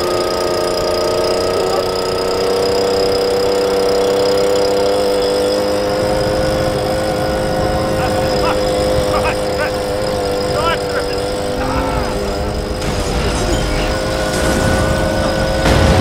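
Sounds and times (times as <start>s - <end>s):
leaf blower whining: 0.0s - 16.0s.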